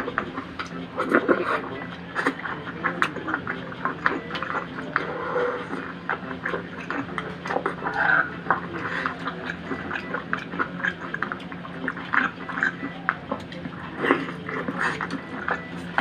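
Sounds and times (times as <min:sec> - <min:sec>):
wet chewing and sucking: 0:02.2 - 0:15.7.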